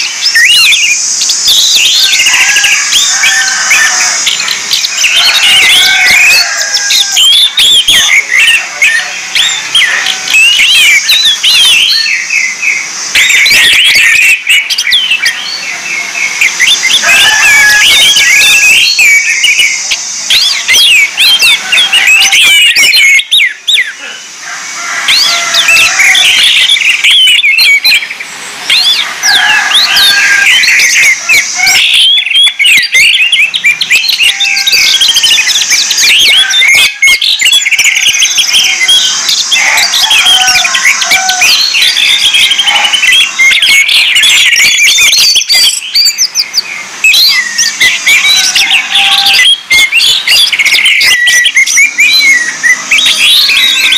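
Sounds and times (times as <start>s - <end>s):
thrush singing whistled trills: 0.0s - 53.9s.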